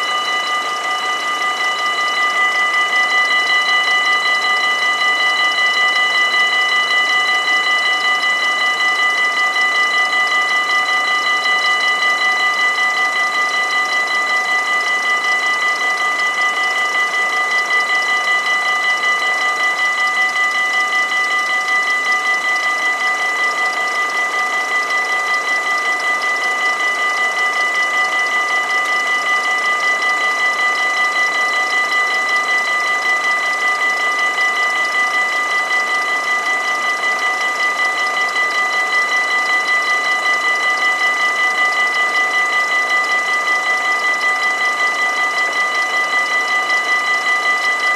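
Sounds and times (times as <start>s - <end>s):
level crossing warning bells: 0.0s - 47.9s.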